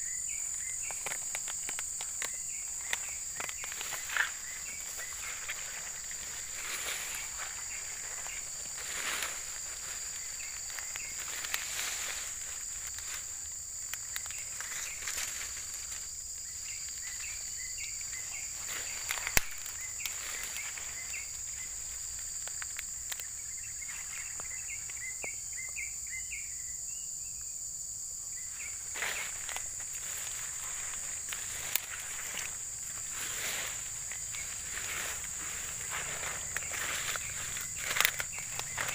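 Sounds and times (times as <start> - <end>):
short insect chirps: 0.0 - 27.6, 28.3 - 38.9
high-pitched insect drone: 0.0 - 38.9
footsteps through leafy undergrowth: 0.3 - 25.1, 28.5 - 38.9.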